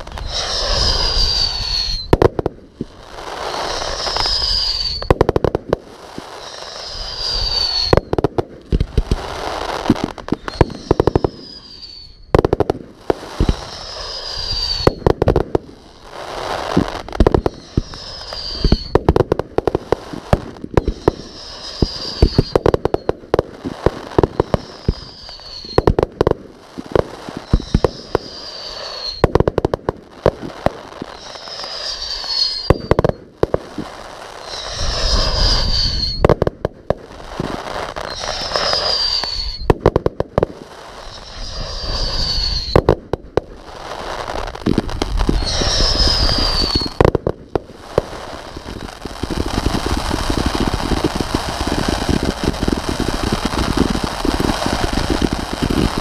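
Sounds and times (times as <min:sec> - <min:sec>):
falling firework whistles: 0:00.0 - 0:56.0
firework bangs crackling: 0:00.0 - 0:56.0
hissing noise: 0:00.0 - 0:56.0.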